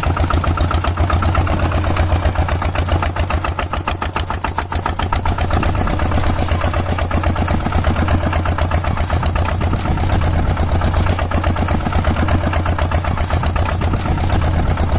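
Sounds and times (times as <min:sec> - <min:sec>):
engine chugging: 0:00.0 - 0:14.9.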